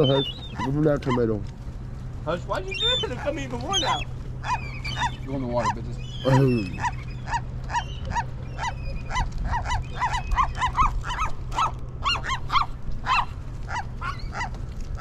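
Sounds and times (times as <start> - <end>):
gulls calling: 0.0 - 15.0
steady low hum: 0.0 - 15.0.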